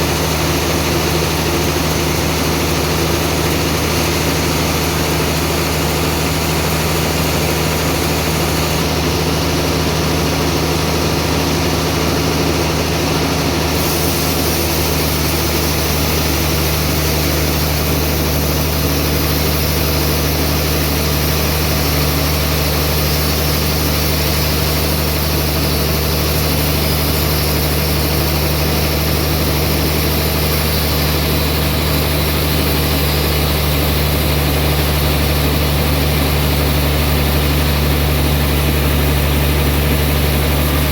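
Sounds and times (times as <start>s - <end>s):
sawmill machine drone: 0.0s - 40.9s.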